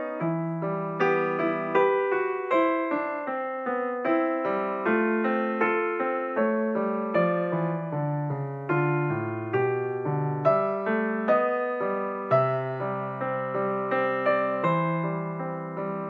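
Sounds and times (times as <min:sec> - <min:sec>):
slow piano minuet: 0:00.0 - 0:16.0.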